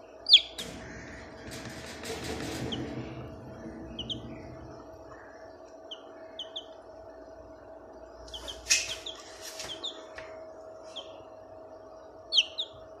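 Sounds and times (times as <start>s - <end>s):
young birds chirping: 0.0s - 11.5s, 12.2s - 13.0s
steady low hum: 0.0s - 13.0s.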